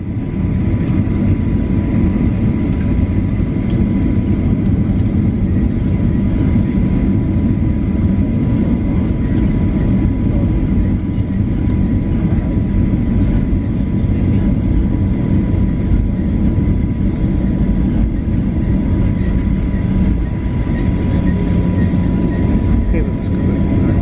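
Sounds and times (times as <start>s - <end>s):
faint steady whine: 0.0s - 24.0s
jet engines roaring: 0.0s - 24.0s.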